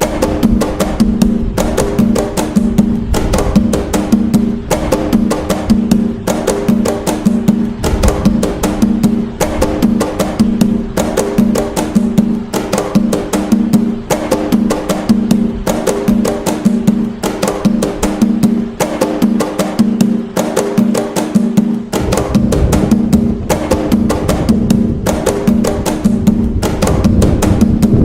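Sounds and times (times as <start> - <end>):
ringing low drum tone: 0.0 - 16.2, 21.7 - 28.0
hand drums playing fast rhythm: 0.0 - 28.0.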